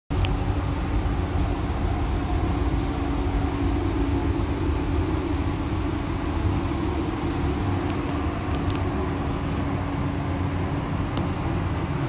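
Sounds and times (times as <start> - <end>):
ventilation fans droning: 0.1 - 12.0.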